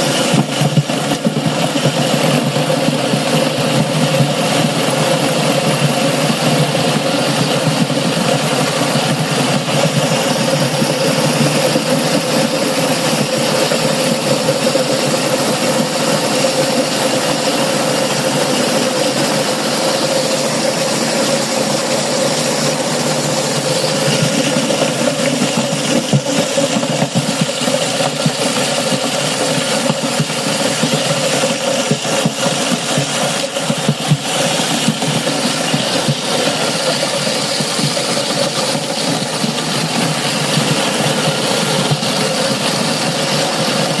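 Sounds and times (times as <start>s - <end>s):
chaff cutter engine running: 0.0s - 44.0s.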